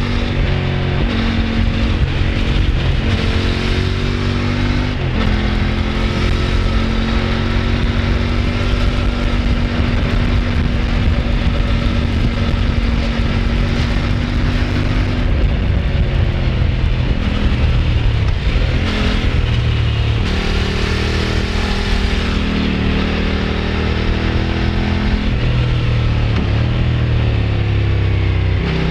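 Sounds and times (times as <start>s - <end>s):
motorcycle engine and exhaust: 0.0s - 28.9s
wind noise: 0.0s - 28.9s.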